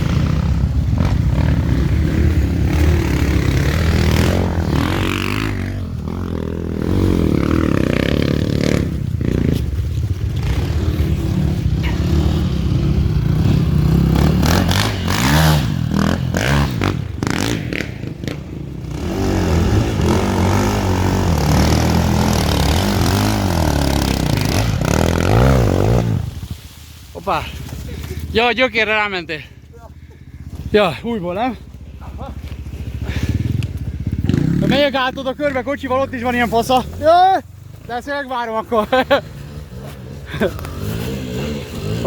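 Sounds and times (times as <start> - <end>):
motorcycle engine revving: 0.0 - 38.0, 38.7 - 42.0.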